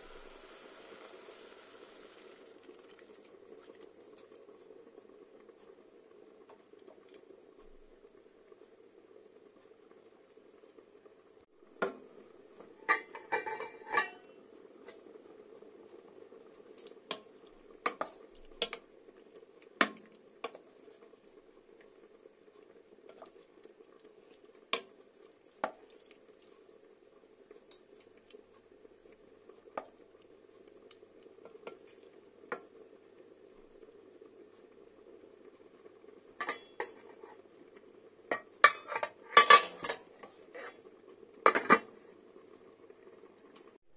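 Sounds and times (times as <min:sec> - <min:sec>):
steady low hiss: 0:00.0 - 0:43.8
wooden spoon stirring in pot: 0:02.2 - 0:08.2, 0:11.6 - 0:42.9.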